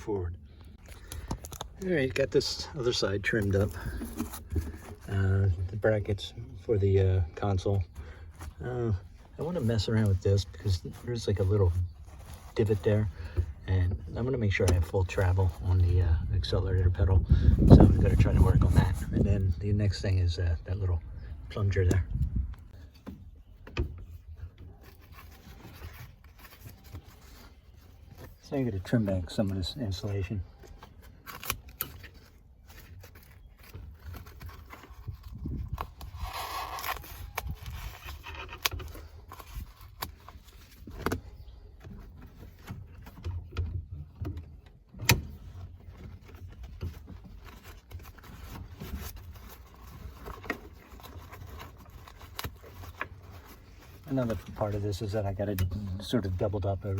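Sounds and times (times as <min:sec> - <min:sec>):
carpet rubbing and rustling: 0:00.0 - 0:56.9.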